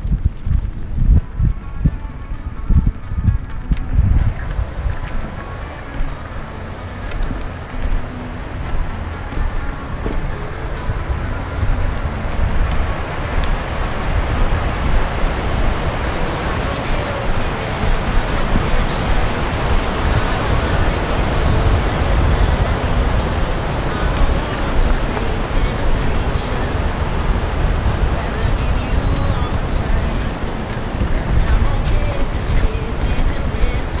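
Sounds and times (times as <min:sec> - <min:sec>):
mountain stream: 0:00.0 - 0:34.0
wind buffeting microphone: 0:00.0 - 0:34.0.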